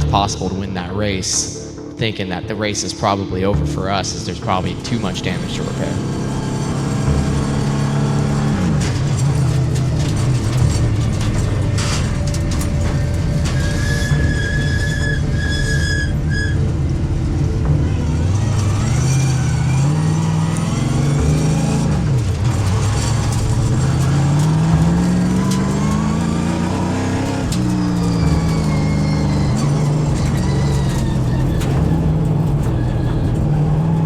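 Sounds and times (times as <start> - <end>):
race car engine: 0.0 - 34.0.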